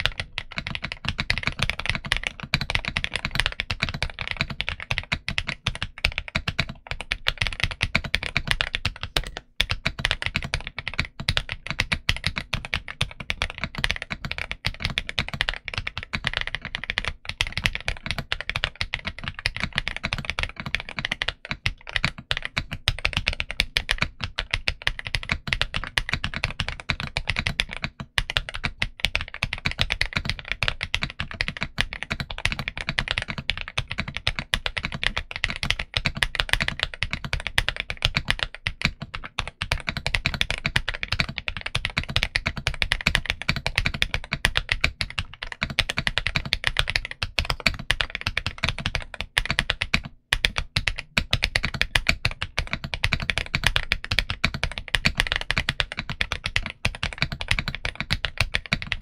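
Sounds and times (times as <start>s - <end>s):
fast mechanical keyboard typing: 0.0s - 59.0s.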